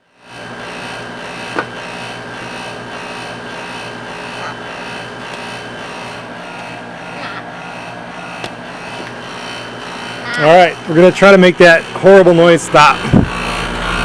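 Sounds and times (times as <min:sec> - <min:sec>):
air conditioner running: 0:00.0 - 0:14.0
metal panel rasping buzz: 0:00.0 - 0:14.0.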